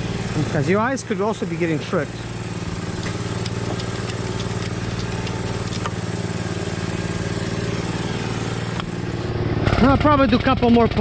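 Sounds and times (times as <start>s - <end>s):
motor running with fast pulse: 0.0s - 9.8s.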